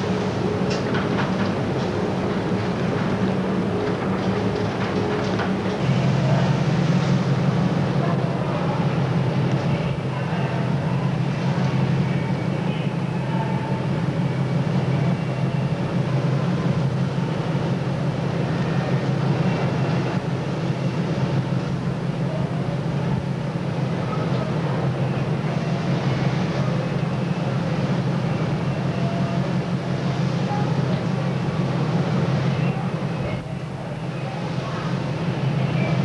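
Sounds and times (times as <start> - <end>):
boat engines droning: 0.0 - 36.0.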